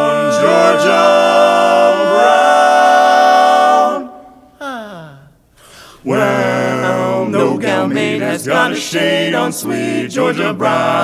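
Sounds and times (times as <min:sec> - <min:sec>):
quartet singing close harmony: 0:00.0 - 0:04.5, 0:06.1 - 0:11.0.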